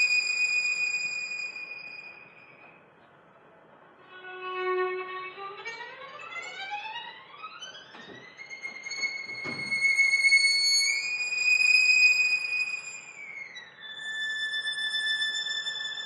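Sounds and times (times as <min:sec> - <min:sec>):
violin glissando: 0:00.0 - 0:02.6, 0:04.1 - 0:16.0.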